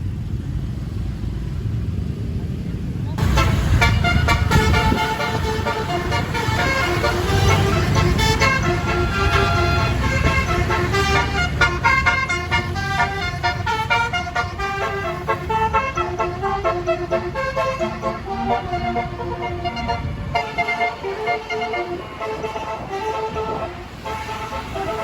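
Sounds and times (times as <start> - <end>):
bus engine rumble: 0.0 - 25.0
air horn playing melody: 3.2 - 25.0.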